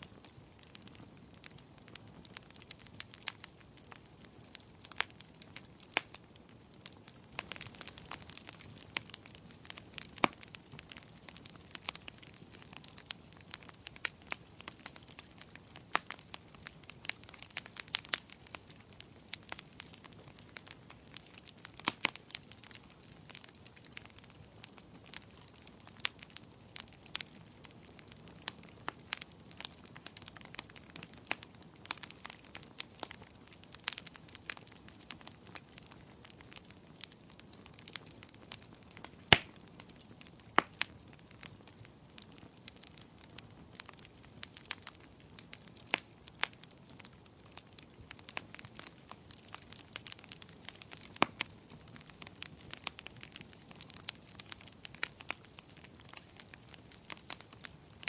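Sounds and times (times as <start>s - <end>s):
soft hiss of burning: 0.0s - 58.0s
wood fire crackling and popping: 0.0s - 58.0s.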